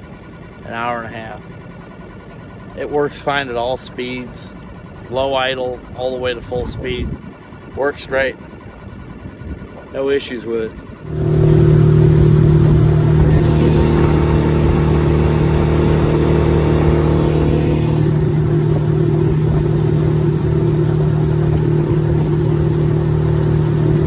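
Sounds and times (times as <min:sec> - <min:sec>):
outboard motor running: 0:00.0 - 0:24.0
water and wind hiss: 0:00.0 - 0:24.0.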